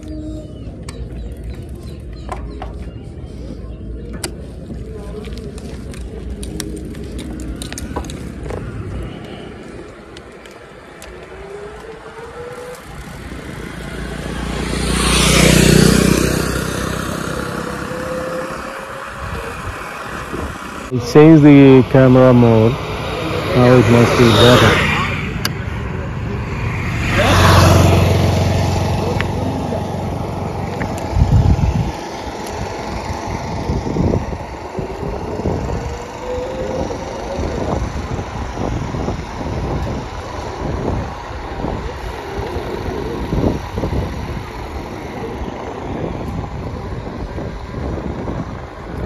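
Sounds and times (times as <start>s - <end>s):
low engine hum: 0.0s - 49.0s
wind buffeting microphone: 0.0s - 49.0s.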